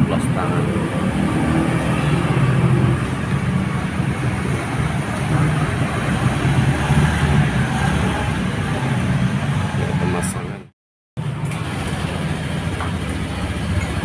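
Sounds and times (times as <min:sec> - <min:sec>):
scooter engines running: 0:00.0 - 0:10.5, 0:11.2 - 0:14.0.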